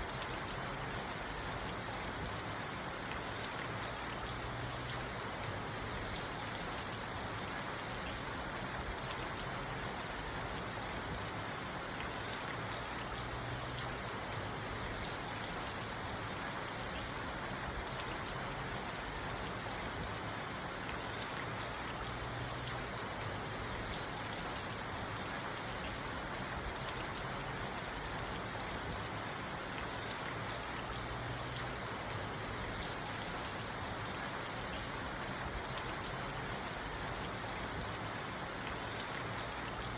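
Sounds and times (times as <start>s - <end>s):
rain drumming on a car: 0.0s - 39.9s.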